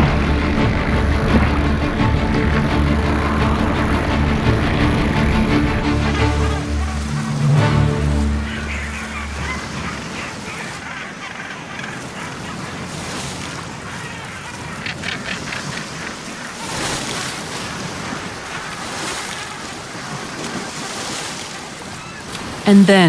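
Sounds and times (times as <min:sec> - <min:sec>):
surf and churning water: 0:00.0 - 0:23.0.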